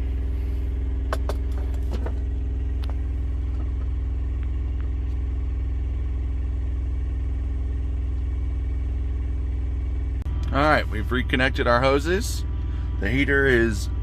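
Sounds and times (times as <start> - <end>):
heater fan low hum: 0.0 - 14.0.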